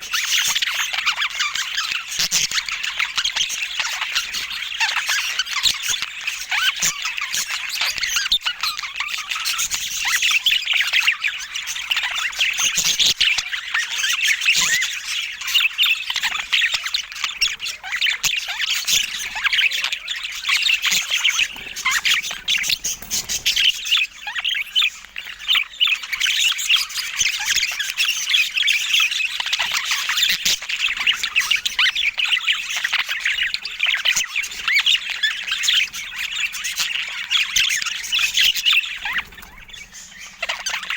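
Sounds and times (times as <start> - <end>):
budgies chirping and squawking: 0.0 - 40.9.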